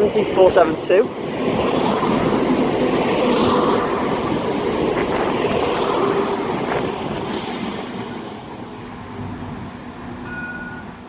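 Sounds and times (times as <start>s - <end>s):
diesel train rumbling: 0.0s - 11.0s.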